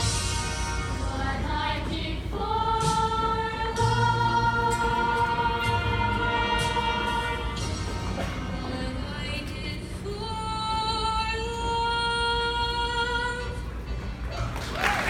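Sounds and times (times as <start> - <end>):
young voices singing together: 0.8 - 13.3.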